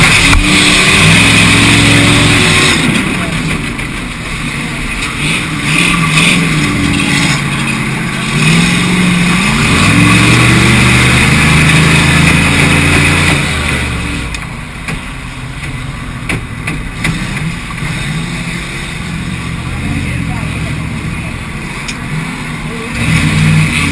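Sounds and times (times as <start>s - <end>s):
race car engines running: 0.0s - 23.9s
race car revving and passing: 0.0s - 23.9s.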